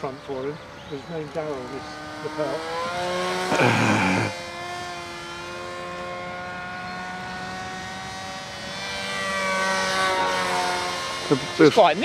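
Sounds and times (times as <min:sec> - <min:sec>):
model aircraft motor and propeller: 0:00.0 - 0:12.0.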